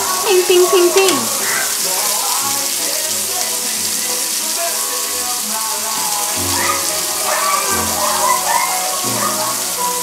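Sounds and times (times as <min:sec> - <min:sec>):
background music: 0:00.0 - 0:10.0
meat sizzling on a grill pan: 0:00.0 - 0:10.0.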